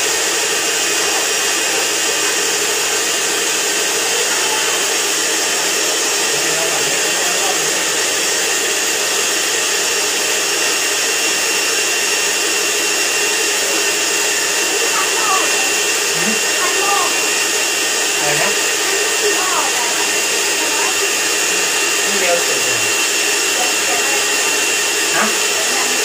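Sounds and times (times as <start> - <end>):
washing machine motor whirring: 0.0 - 26.0.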